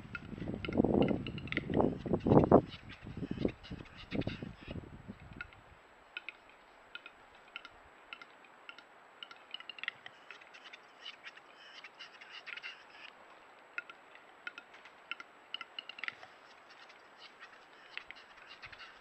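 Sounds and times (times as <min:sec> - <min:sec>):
bird's dry clicks: 0:00.1 - 0:04.4, 0:05.2 - 0:13.2, 0:13.8 - 0:19.0.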